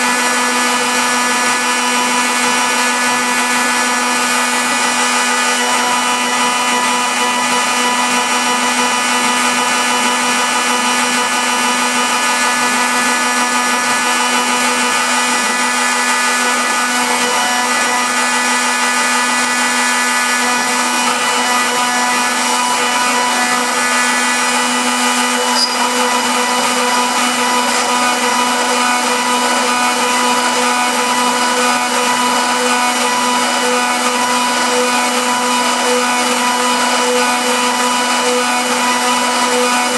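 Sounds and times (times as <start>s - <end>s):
router spindle humming: 0.0s - 39.9s.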